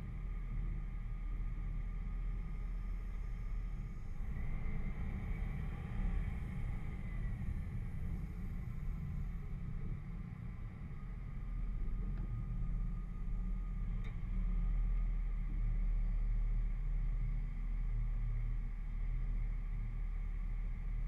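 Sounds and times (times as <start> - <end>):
engine idling rumble: 0.0 - 21.0.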